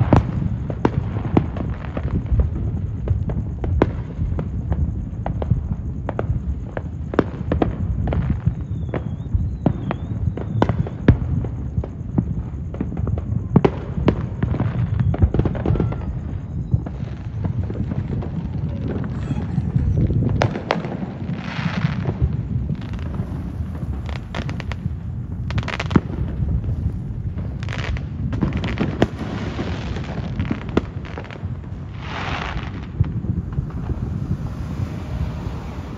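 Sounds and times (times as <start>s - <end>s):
firework bangs and cracks: 0.0s - 35.9s
firework hiss: 0.0s - 35.9s
rumble of distant booms: 0.0s - 35.9s.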